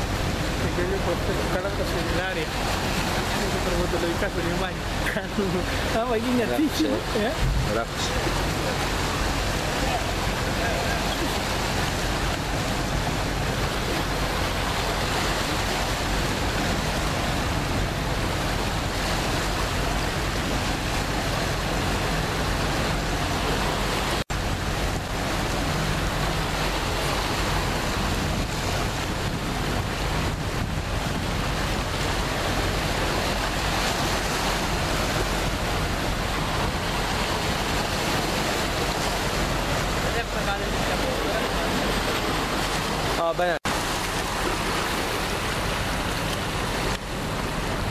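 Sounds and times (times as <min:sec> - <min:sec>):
sea waves breaking over rocks: 0:00.0 - 0:47.9
wind rumbling on microphone: 0:00.0 - 0:47.9.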